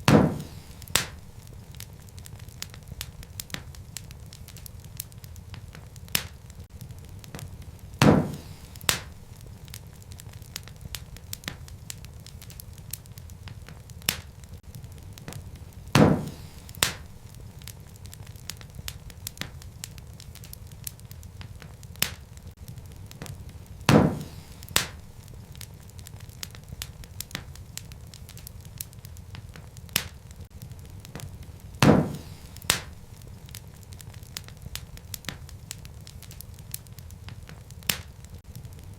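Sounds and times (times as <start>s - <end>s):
fire popping: 0.0s - 38.9s
wood fire crackling: 0.0s - 38.9s.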